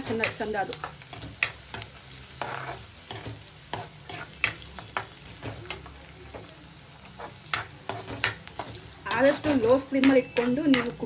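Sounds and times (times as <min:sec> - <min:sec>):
onions sizzling in oil: 0:00.0 - 0:11.0
steel spoon scraping a pan: 0:00.1 - 0:05.9, 0:07.0 - 0:11.0.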